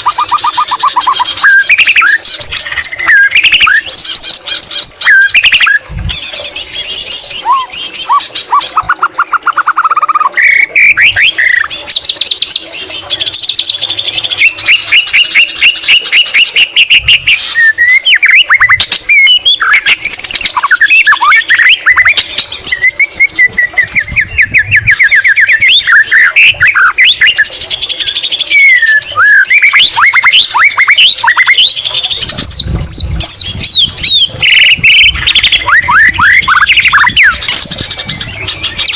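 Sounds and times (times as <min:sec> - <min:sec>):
bird singing whistled trills: 0:00.0 - 0:38.9.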